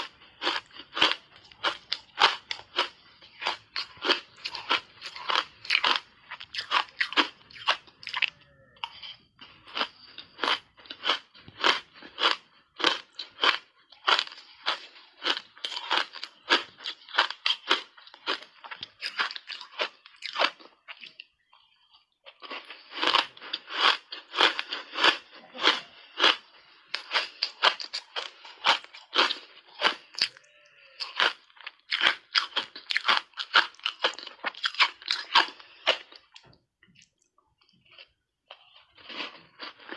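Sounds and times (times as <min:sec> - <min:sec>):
person crunching ice: 0:00.0 - 0:21.1, 0:22.4 - 0:36.5, 0:37.9 - 0:39.9.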